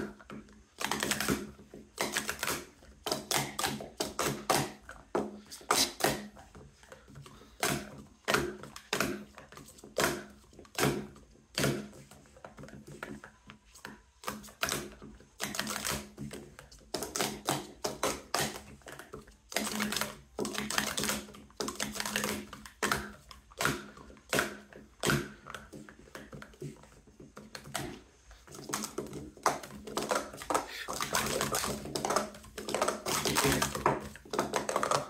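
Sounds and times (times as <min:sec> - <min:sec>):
plastic cups clattering: 0:00.0 - 0:35.0.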